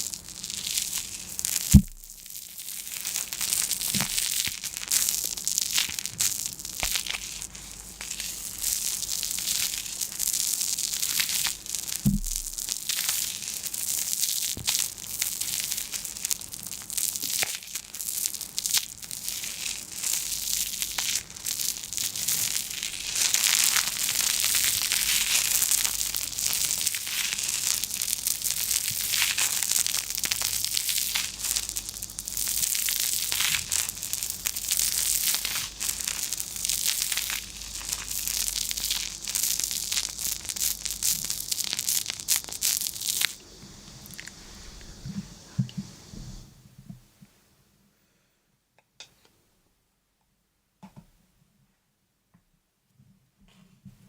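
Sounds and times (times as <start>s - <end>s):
brittle material crackling and crinkling: 0.0s - 45.9s.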